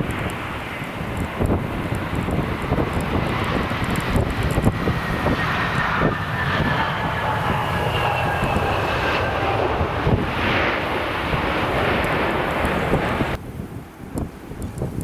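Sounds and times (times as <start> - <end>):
jet engines whining: 0.0 - 13.4
gusting wind rumble: 0.0 - 15.0.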